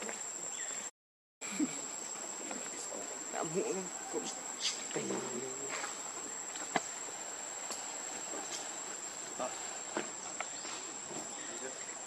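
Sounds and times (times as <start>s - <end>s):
insects shrilling: 1.5s - 12.0s.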